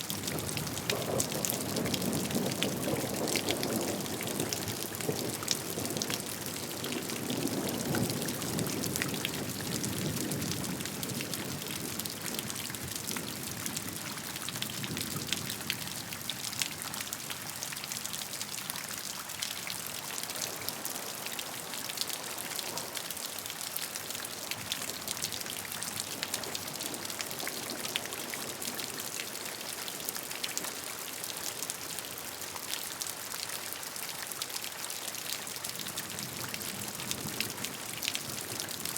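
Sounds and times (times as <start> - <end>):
rain drops ticking on a surface: 0.0 - 38.9.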